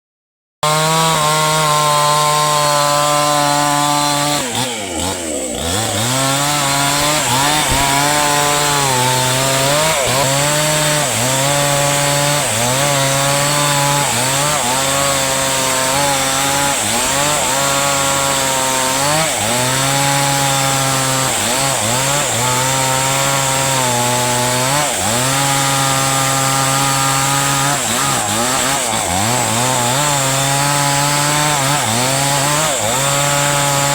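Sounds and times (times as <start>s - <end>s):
chainsaw cutting wood: 0.6s - 33.9s.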